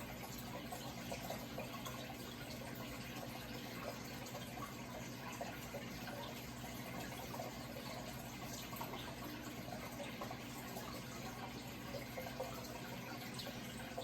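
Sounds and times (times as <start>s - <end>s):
low steady hum: 0.0s - 14.0s
water trickling and splashing: 0.0s - 14.0s.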